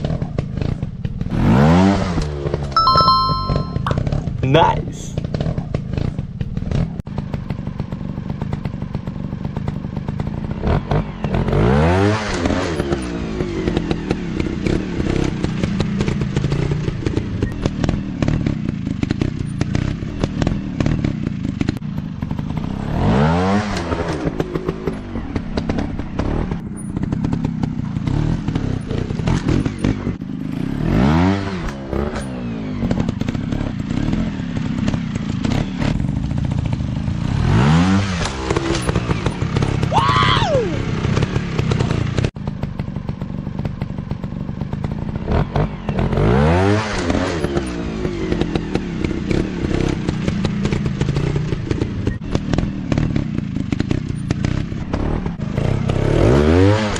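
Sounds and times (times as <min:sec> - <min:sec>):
clatter: 0:00.0 - 0:01.5, 0:05.2 - 0:30.7, 0:31.4 - 0:39.9, 0:41.0 - 0:56.9.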